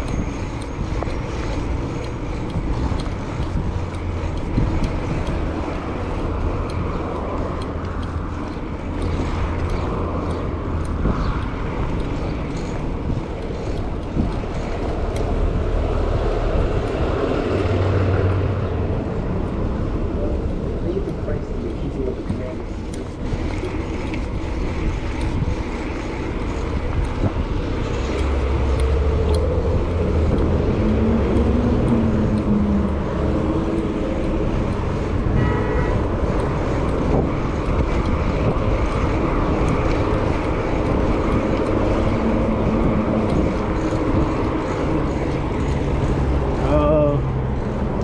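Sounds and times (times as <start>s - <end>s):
traffic rumble: 0.0s - 48.0s
large vehicle passing: 1.2s - 48.0s.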